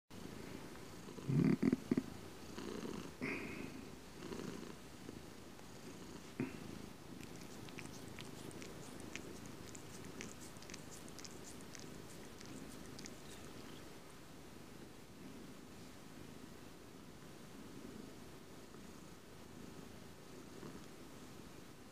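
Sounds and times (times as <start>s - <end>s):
cat purring: 0.2s - 14.0s, 17.6s - 21.5s.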